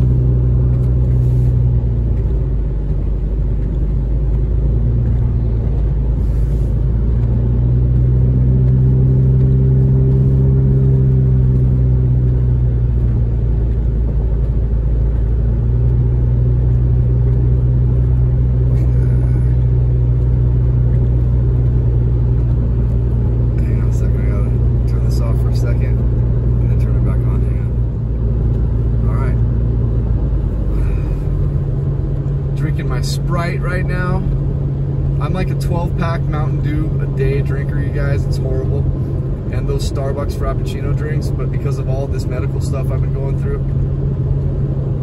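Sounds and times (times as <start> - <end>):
car engine and road noise drone: 0.0 - 45.0.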